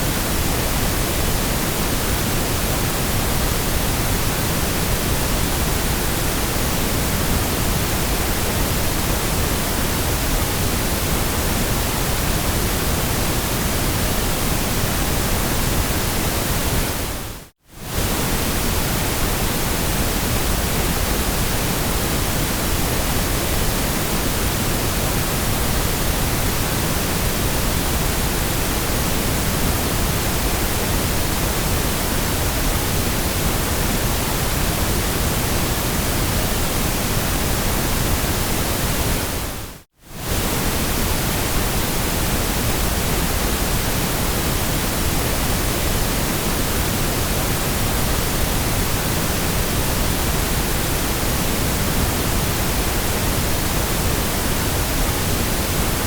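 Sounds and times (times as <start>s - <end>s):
steady synthetic noise hiss: 0.0s - 56.0s.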